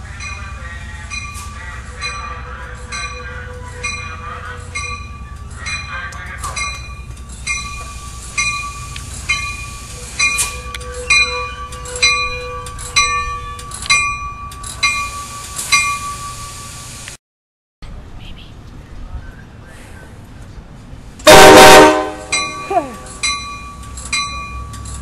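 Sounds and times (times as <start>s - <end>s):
train bell ringing: 0.0s - 17.0s, 21.3s - 25.0s
train rumble: 0.0s - 17.2s, 17.8s - 25.0s.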